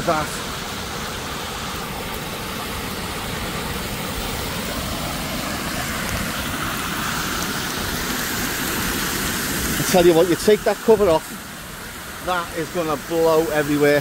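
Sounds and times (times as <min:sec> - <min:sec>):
floodwater rushing and splashing: 0:00.0 - 0:14.0
rain hissing on wet road: 0:00.0 - 0:14.0.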